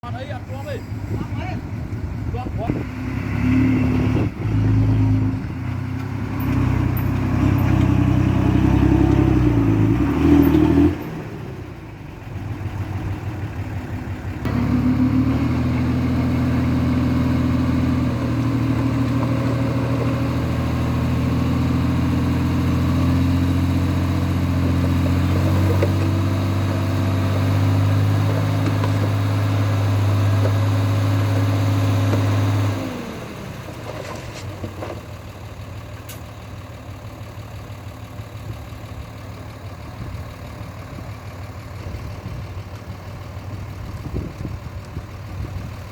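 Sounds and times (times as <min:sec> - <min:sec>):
diesel engine running hard: 0:00.0 - 0:45.9.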